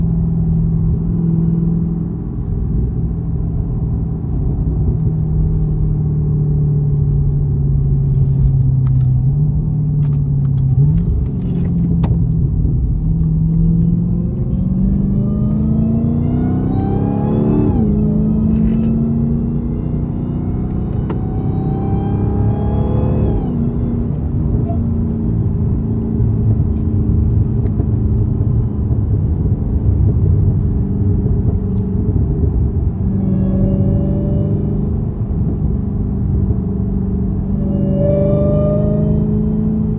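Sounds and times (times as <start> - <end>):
car engine accelerating: 0.0 - 39.9
supercharger whine: 0.0 - 39.9.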